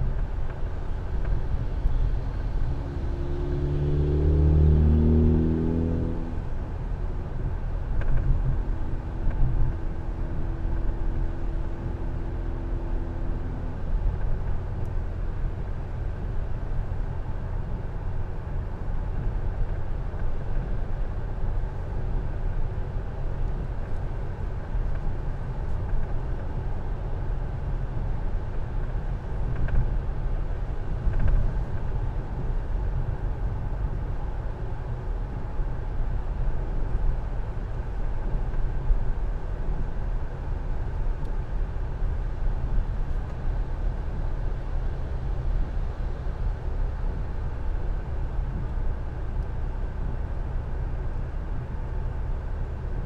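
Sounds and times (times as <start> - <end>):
engine and tyre rumble: 0.0 - 53.0.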